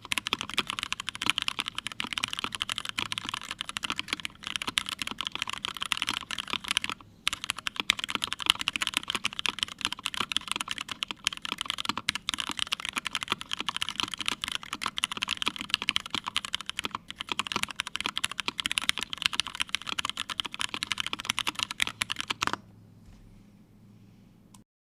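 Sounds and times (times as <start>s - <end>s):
fast typing on mechanical keyboard: 0.0s - 22.6s.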